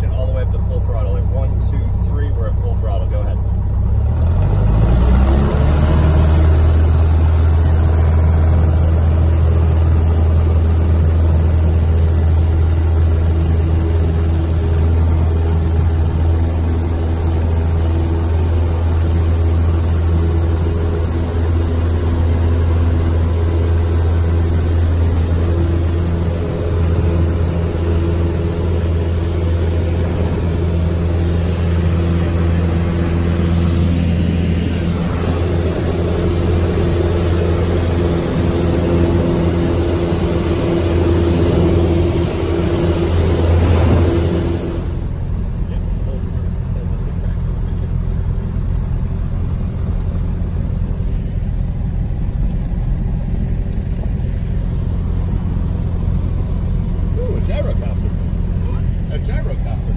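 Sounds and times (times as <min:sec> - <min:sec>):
aircraft engine and propeller: 0:00.0 - 0:59.9.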